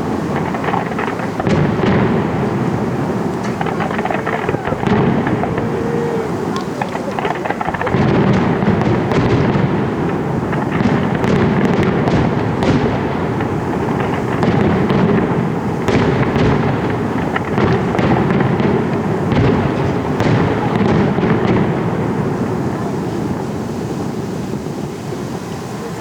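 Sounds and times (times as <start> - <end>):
fireworks crackles and bangs: 0.0 - 26.0
fireworks rumble of bursts: 0.0 - 26.0.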